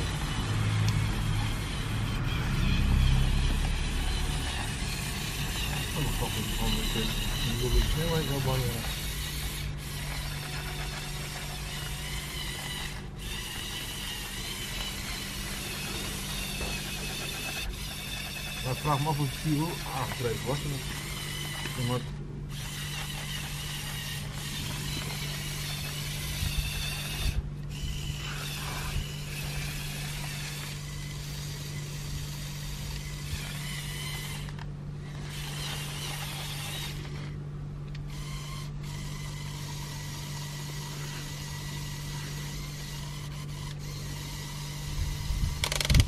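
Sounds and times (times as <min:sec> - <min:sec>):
toy electric motors whirring: 0:00.0 - 0:46.0.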